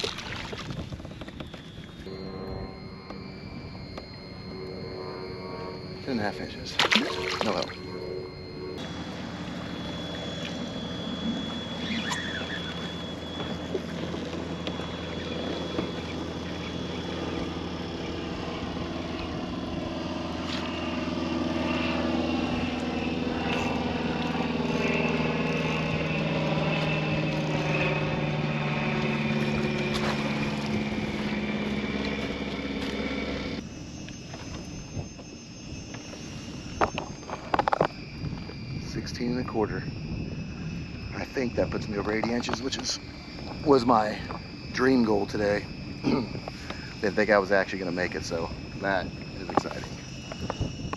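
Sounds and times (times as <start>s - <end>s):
electric motor hum: 0.0s - 50.9s
water noise: 0.0s - 50.9s
wind: 0.0s - 50.9s.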